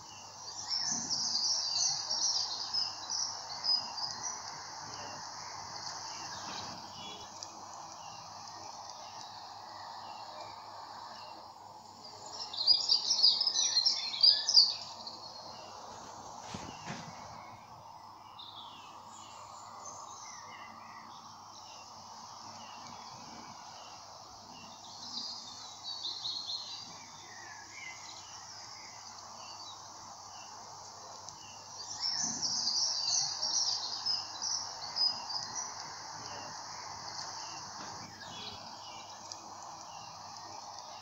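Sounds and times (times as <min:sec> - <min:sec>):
birds chirping: 0:00.0 - 0:41.0
insect drone: 0:00.0 - 0:41.0.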